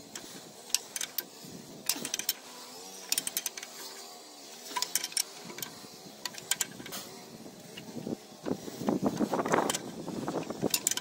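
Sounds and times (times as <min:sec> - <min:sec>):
ratchet wrench clicking: 0:00.0 - 0:11.0.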